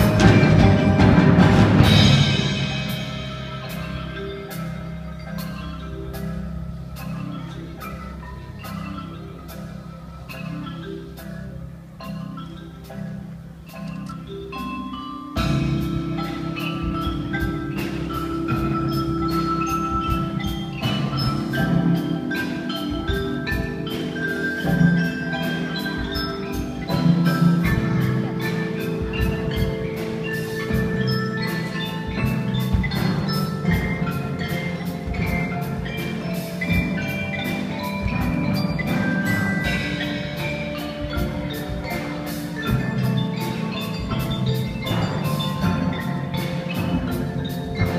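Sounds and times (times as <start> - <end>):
marimba ensemble playing: 0.0 - 47.9.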